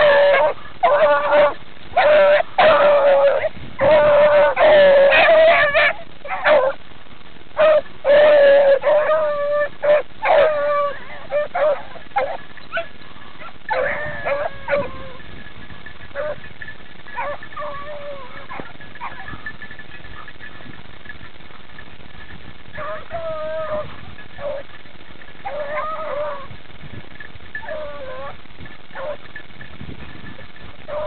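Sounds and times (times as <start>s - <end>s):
beagles baying: 0.0s - 6.9s, 7.5s - 31.0s.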